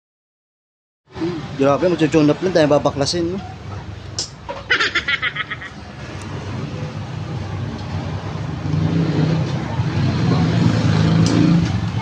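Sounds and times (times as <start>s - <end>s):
vehicle engine humming: 1.1s - 12.0s.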